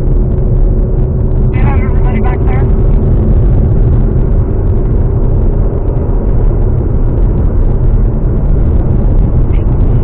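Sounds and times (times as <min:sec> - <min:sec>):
car cruising along a road: 0:00.0 - 0:10.0.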